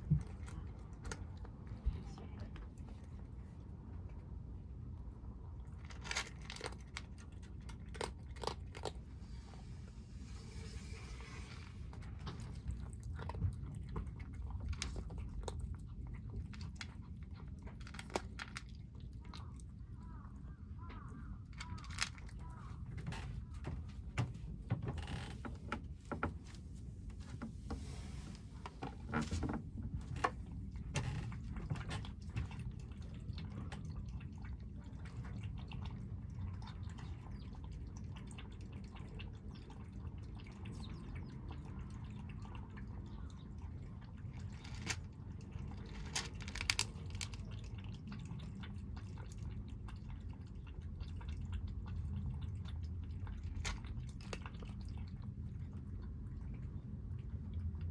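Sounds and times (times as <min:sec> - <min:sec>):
kittens eating: 0:00.0 - 0:57.9.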